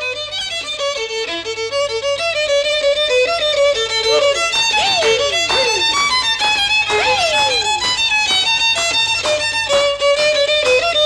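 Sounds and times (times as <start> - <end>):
fast fiddle tune: 0.0 - 11.0.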